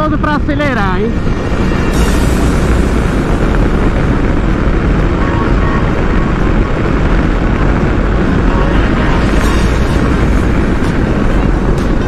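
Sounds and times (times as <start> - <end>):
wind rushing on microphone: 0.0 - 12.0.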